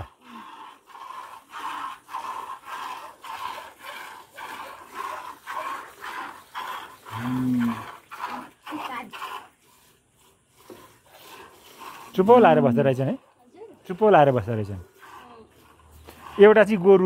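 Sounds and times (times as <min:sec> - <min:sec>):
milk squirting into plastic bucket: 0:00.0 - 0:13.3, 0:14.2 - 0:16.8.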